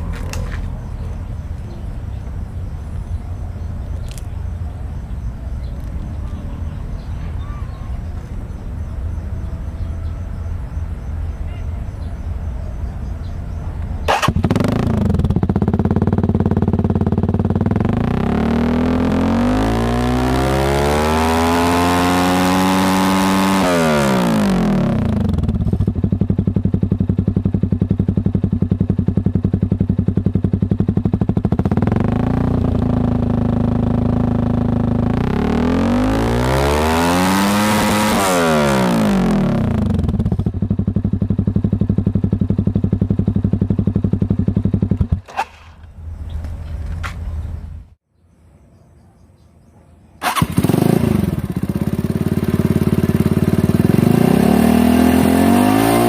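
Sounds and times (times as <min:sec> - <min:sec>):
motorcycle engine revving: 0:00.0 - 0:48.0, 0:50.2 - 0:56.0.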